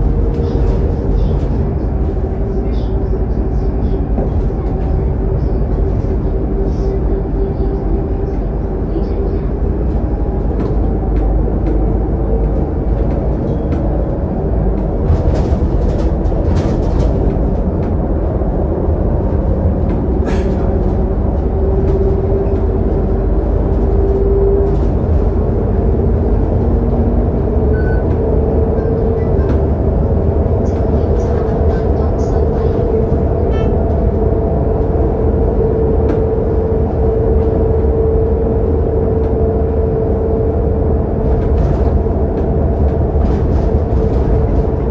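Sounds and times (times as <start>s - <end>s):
bus engine and tyres rumbling: 0.0s - 44.9s.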